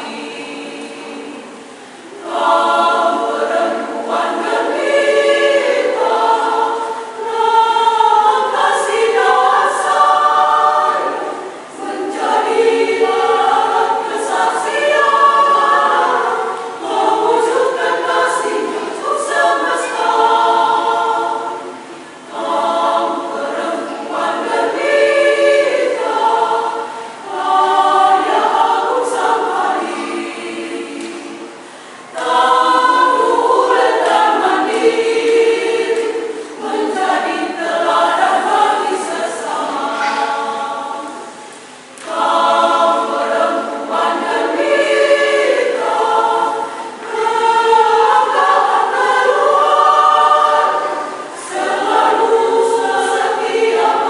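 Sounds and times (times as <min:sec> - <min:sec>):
women's choir singing a hymn: 0:00.0 - 0:54.0.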